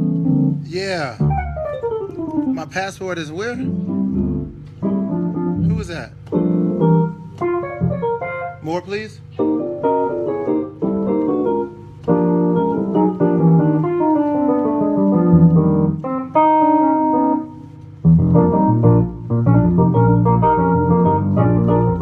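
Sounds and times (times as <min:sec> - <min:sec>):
low bass notes: 0:00.0 - 0:08.5, 0:10.8 - 0:22.0
keyboard playing chords: 0:00.0 - 0:22.0.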